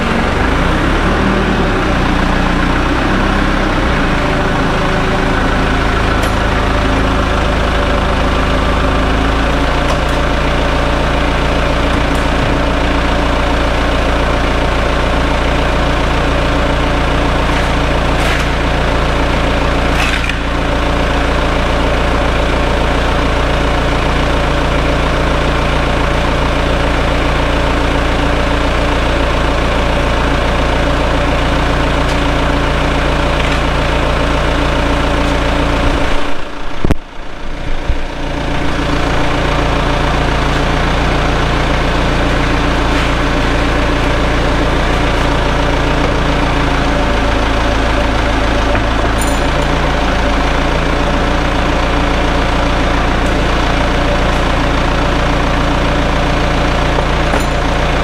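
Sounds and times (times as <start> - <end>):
forklift engine running: 0.0 - 58.0.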